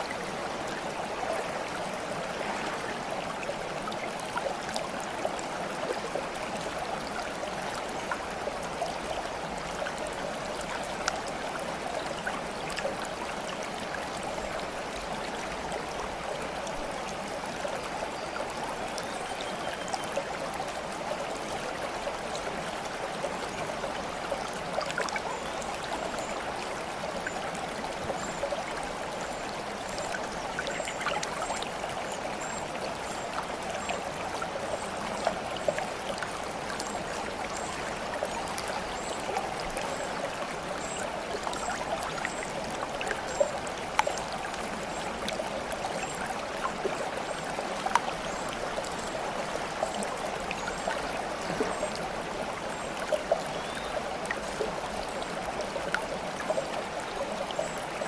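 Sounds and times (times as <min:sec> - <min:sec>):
water babbling like a stream: 0:00.0 - 0:58.0.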